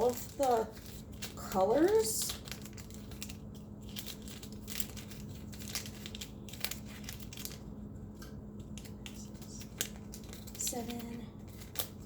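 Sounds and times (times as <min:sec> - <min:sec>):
plastic baggies crinkling: 0:00.0 - 0:12.0.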